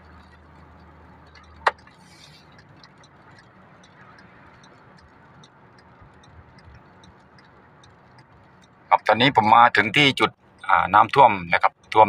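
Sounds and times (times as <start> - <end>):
car cabin hum on wet road: 0.0 - 12.0
light irregular ticking: 0.0 - 12.0.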